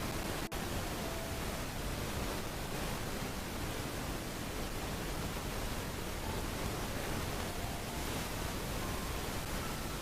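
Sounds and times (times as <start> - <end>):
microphone hiss and rumble: 0.0 - 10.0.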